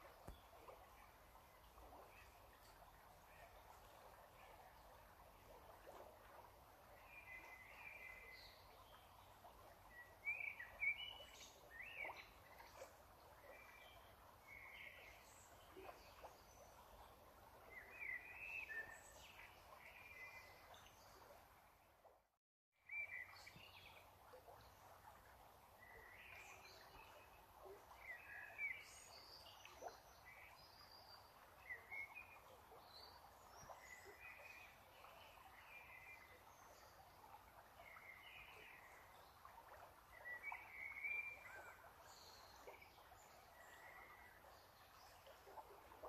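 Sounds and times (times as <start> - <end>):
low steady hiss: 0.0 - 22.1, 22.9 - 46.0.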